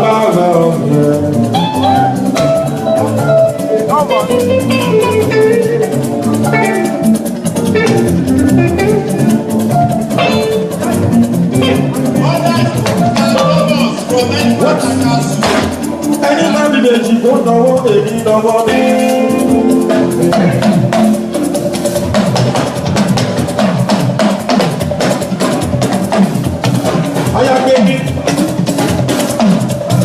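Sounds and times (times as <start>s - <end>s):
guitar: 0.0s - 30.0s
steady beat: 0.0s - 30.0s.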